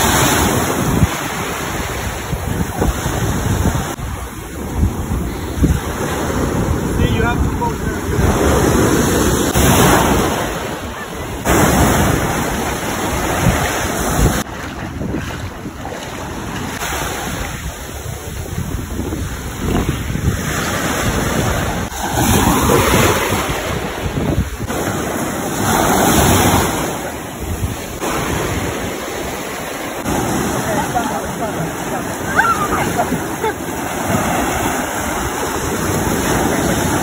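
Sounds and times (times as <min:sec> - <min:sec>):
ocean surf washing onto beach: 0:00.0 - 0:37.0
wind rushing over microphone: 0:00.0 - 0:37.0.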